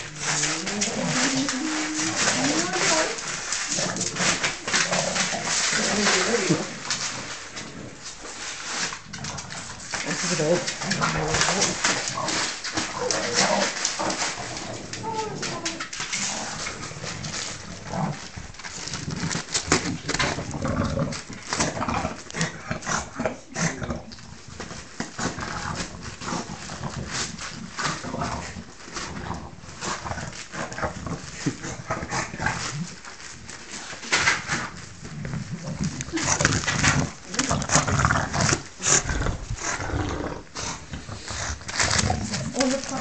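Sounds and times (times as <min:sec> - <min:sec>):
dog sounds: 0:00.0 - 0:08.0, 0:08.7 - 0:24.2, 0:25.0 - 0:43.0
wrapping paper crackling: 0:00.0 - 0:43.0.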